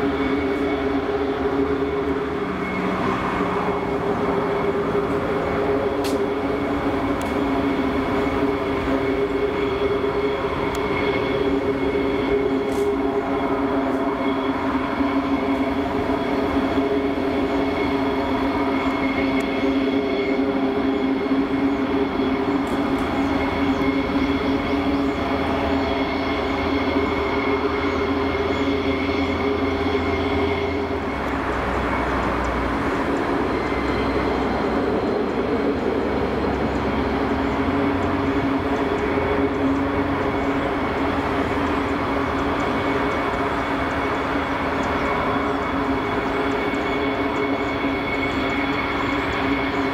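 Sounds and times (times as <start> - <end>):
jet engines whine and drone: 0.0 - 49.9.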